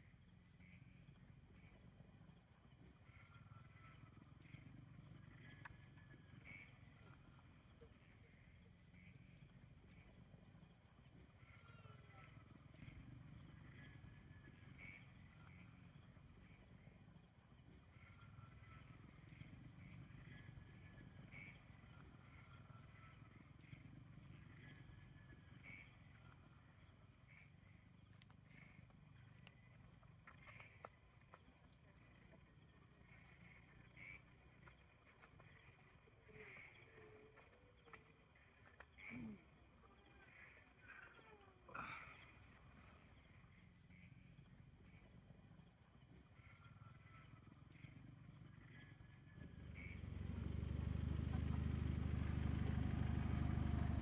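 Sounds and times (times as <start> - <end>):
crickets trilling: 0.0 - 54.0
insect chirps: 0.0 - 54.0.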